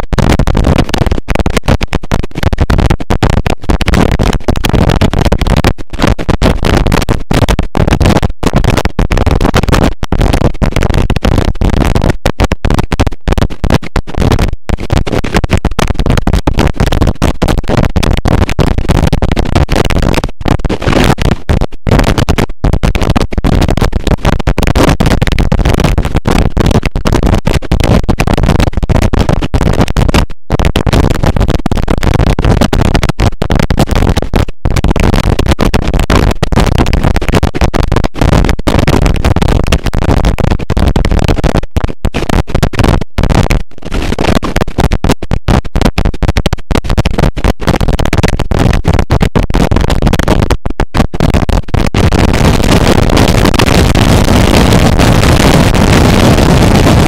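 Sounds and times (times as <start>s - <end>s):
harsh distorted noise music: 2.4s - 50.6s, 51.3s - 57.0s.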